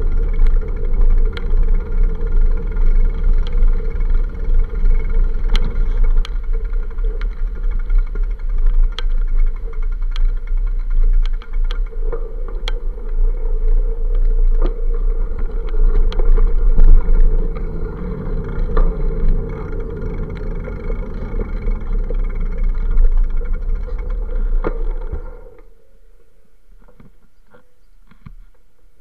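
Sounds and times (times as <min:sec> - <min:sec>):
sharp clicks and rattles: 0:00.0 - 0:25.8
street traffic: 0:00.0 - 0:28.4
wind and riding rumble: 0:00.0 - 0:29.0.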